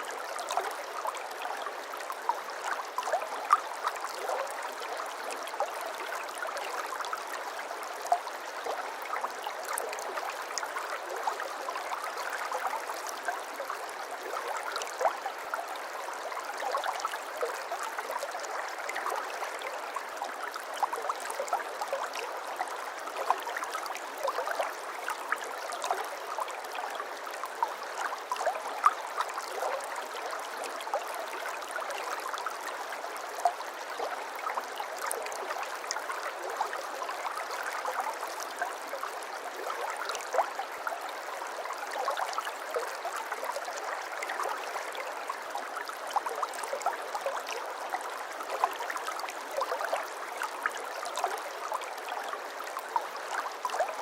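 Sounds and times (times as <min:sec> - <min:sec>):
stream water flowing and trickling: 0:00.0 - 0:54.0.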